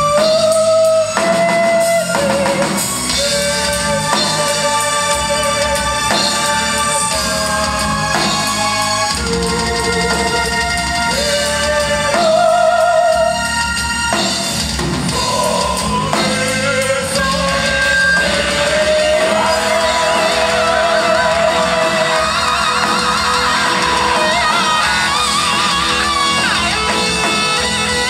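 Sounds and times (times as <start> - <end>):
metal band playing live: 0.0 - 28.0
person singing with vibrato: 0.0 - 28.0.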